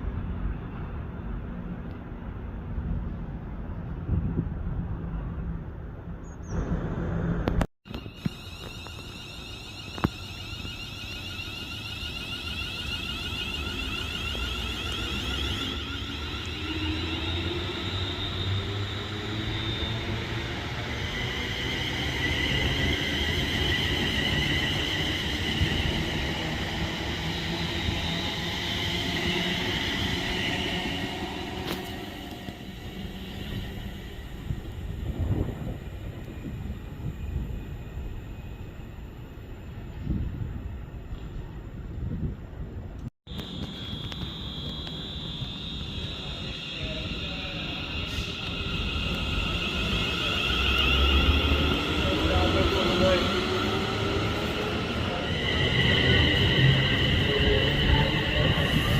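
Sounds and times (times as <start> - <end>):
train rumbling: 0.0 - 58.9
high whine: 6.5 - 38.2, 43.3 - 58.9.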